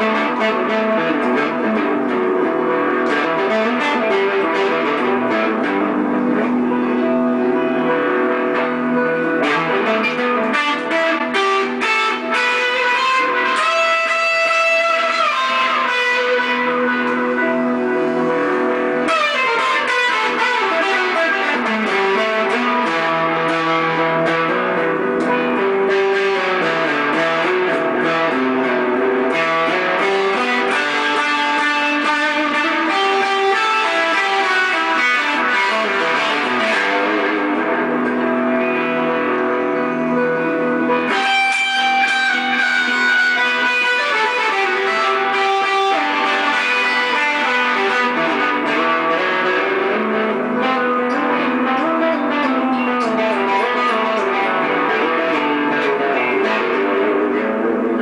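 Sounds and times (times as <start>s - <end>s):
electric guitar through amplifier: 0.0s - 58.0s.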